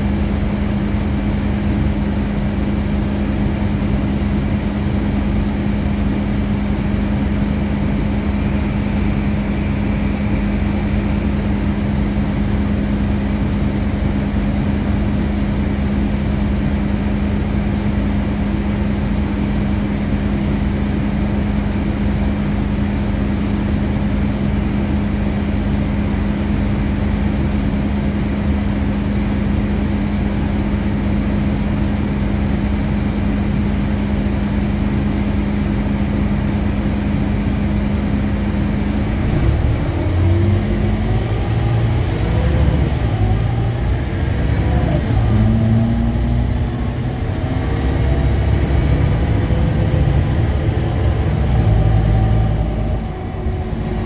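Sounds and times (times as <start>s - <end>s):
bus diesel engine idling and revving: 0.0s - 54.0s.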